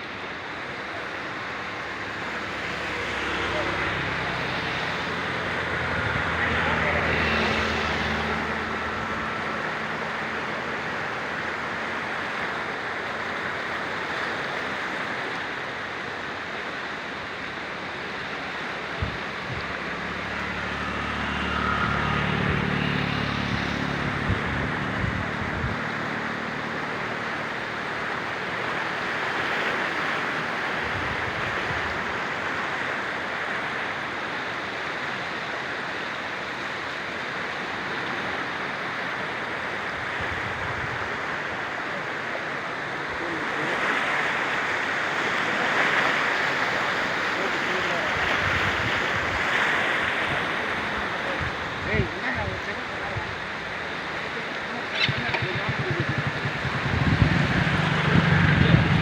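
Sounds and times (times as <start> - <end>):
floodwater rushing: 0.0 - 59.0
low engine-like hum: 0.0 - 59.0.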